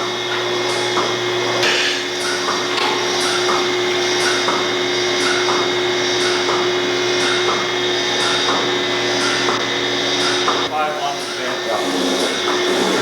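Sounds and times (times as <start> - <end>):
pulsators hissing and clicking: 0.0 - 13.0
vacuum pump humming: 0.0 - 13.0.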